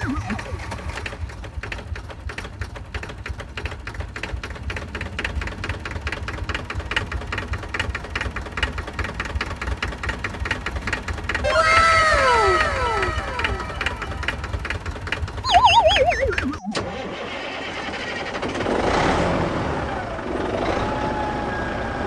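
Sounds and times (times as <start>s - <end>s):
rapid mechanical clatter: 0.0s - 11.5s, 12.6s - 19.3s.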